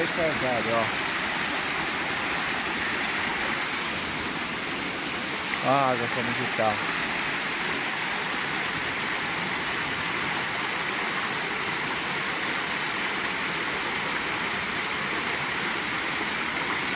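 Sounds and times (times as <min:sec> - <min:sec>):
water cascading down steps: 0:00.0 - 0:16.9.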